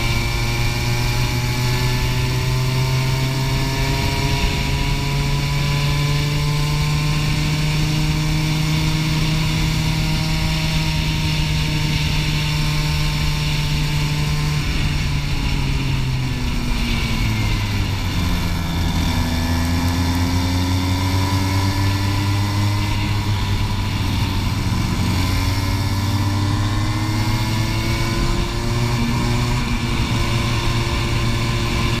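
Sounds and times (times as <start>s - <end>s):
racing kart engine revving: 0.0s - 32.0s.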